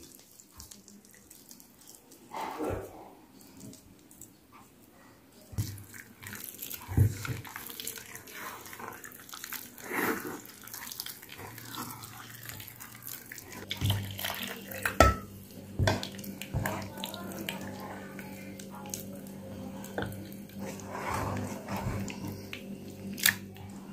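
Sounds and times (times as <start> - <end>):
hands squelching wet dough: 0.0 - 2.4, 5.6 - 23.9.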